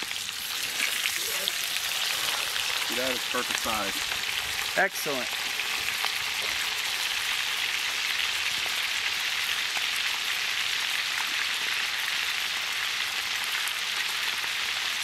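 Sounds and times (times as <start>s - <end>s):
meat sizzling in grease: 0.0s - 15.0s.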